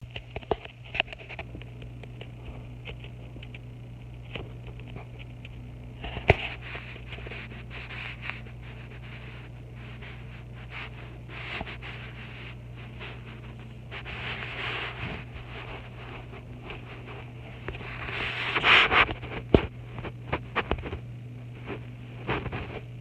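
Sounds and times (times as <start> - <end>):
steady low hum: 0.0 - 23.0
light scraping and tapping: 0.2 - 22.9.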